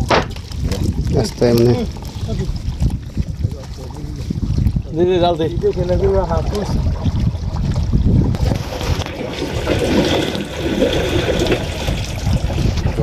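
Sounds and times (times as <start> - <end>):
water trickling and sloshing: 0.0 - 13.0.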